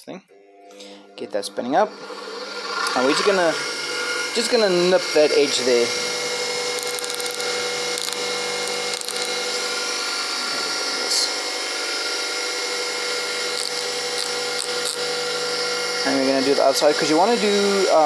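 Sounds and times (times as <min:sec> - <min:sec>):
bench grinder grinding metal: 0:00.4 - 0:18.0.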